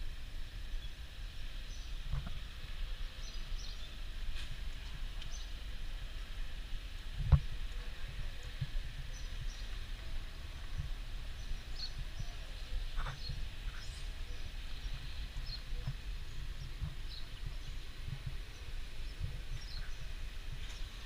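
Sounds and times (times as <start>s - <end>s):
steady low rumble: 0.0s - 21.0s
small birds chirping: 1.6s - 5.6s, 7.2s - 21.0s.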